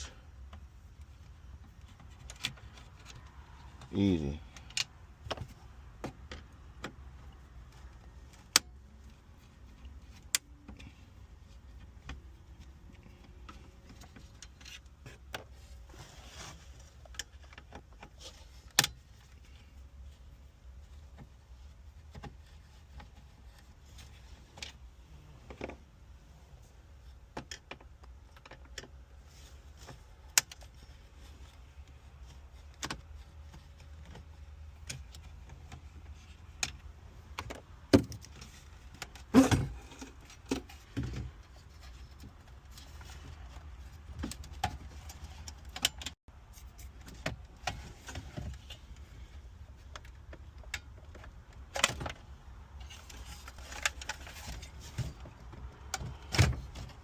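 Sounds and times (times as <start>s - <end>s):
clicks and rattles of hand work: 0.0s - 26.0s, 26.9s - 57.0s.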